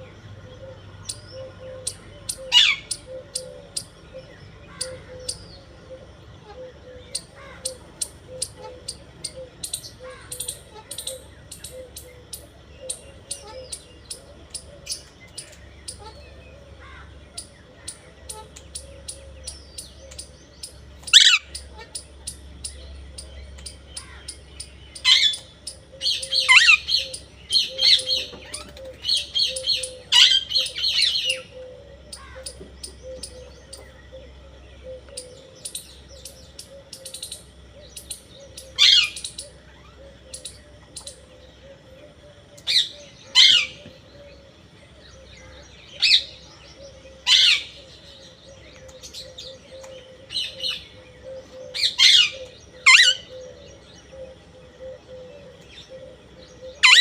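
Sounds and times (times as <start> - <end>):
parrot chirping calls: 0.5 - 43.8, 45.2 - 57.0.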